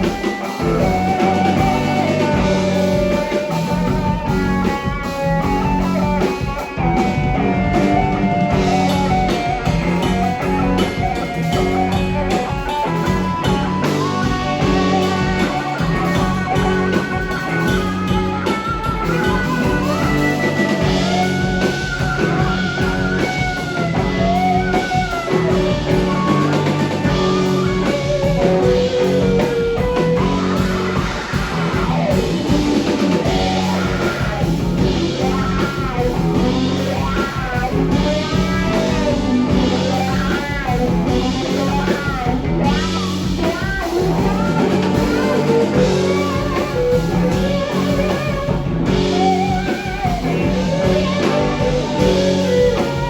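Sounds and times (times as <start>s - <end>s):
bass guitar: 0.0s - 53.0s
drum kit: 0.0s - 53.0s
electric guitar lead: 0.0s - 53.0s.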